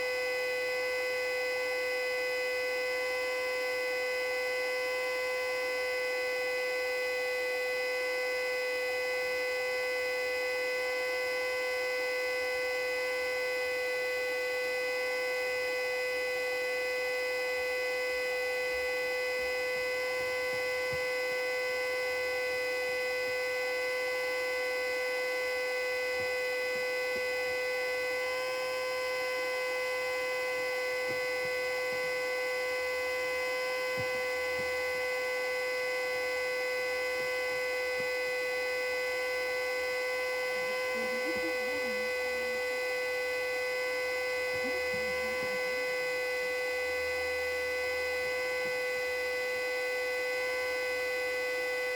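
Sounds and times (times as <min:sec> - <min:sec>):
siren steady tone: 0:00.0 - 0:51.9.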